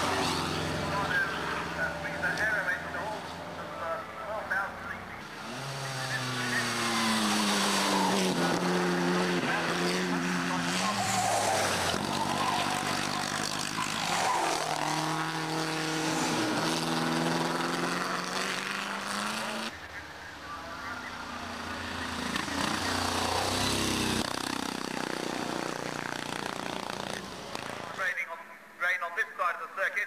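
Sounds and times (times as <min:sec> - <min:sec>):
racing car engines passing: 0:00.0 - 0:28.0
cars approaching with deep rumble: 0:00.0 - 0:28.2.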